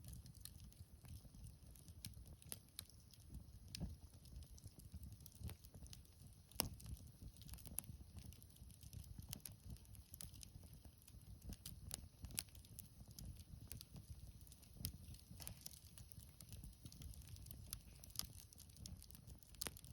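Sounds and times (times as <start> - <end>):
bonfire crackling: 0.0 - 19.9.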